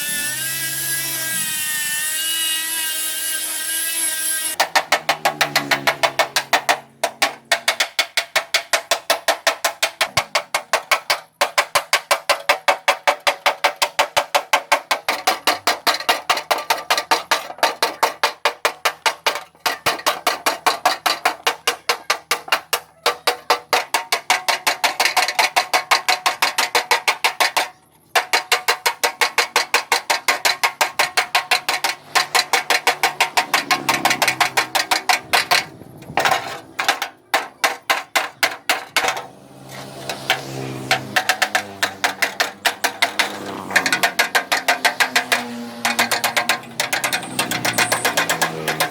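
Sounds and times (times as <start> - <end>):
hammer beating sheet metal: 0.0 - 48.9.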